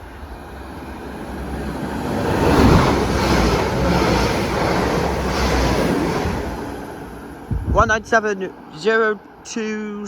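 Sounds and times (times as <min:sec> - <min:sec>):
diesel trains approaching: 0:00.0 - 0:10.0.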